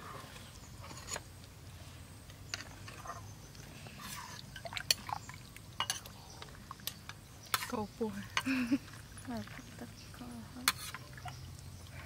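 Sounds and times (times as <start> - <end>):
wet spooning sounds: 2.3 - 12.0.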